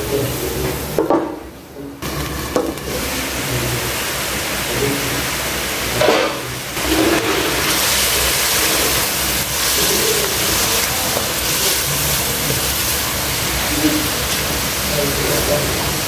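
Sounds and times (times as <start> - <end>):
food sizzling in a wok: 0.0 - 1.1, 2.0 - 16.0.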